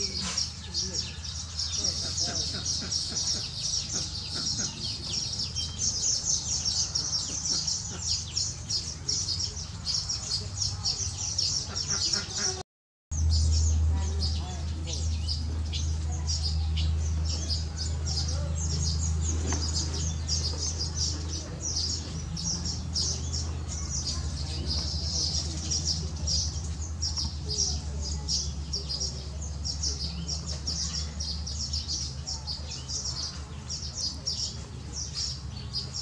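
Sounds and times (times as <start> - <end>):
birds chattering: 0.0 - 36.0.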